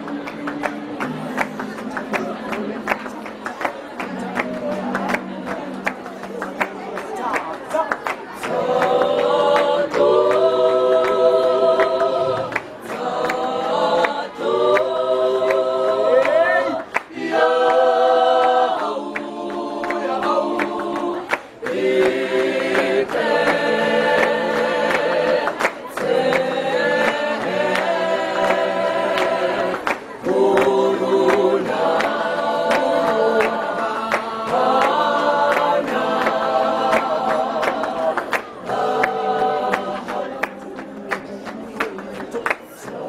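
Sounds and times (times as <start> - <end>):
students singing in chorus: 0.0 - 6.5, 8.3 - 43.0
hand claps: 0.0 - 43.0.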